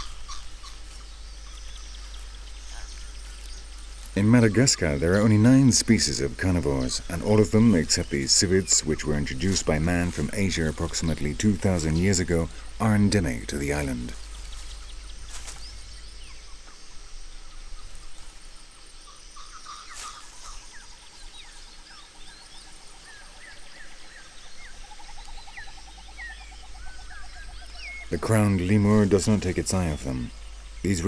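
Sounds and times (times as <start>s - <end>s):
bird chirps and calls: 0.0s - 18.1s, 19.1s - 31.0s.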